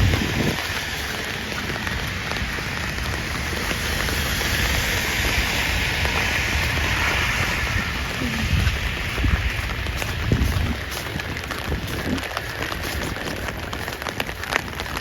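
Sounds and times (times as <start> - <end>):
rain on a wet street: 0.0 - 15.0.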